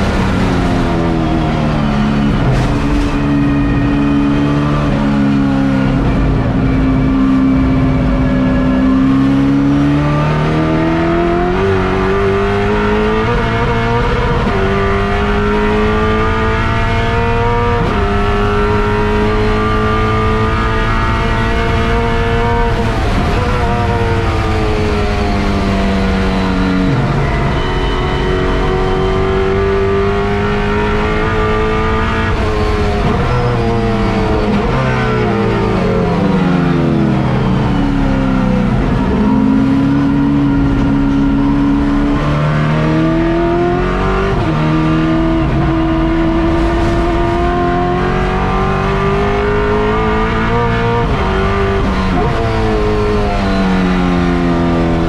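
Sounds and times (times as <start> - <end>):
race car engine at speed: 0.0 - 55.0.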